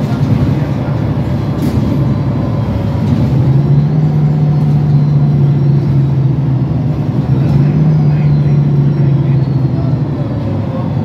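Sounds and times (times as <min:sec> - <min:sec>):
bus engine drone: 0:00.0 - 0:11.0
road rumble: 0:00.0 - 0:11.0.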